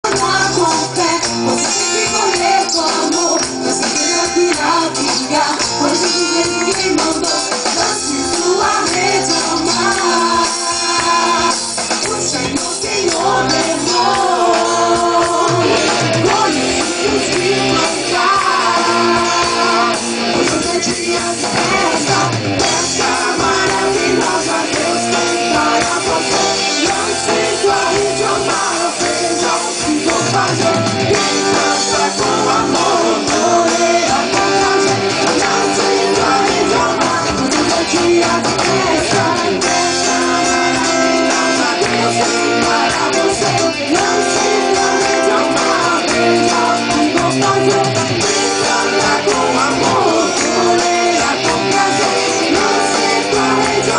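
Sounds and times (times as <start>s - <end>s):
singing with guitar: 0.0s - 53.9s.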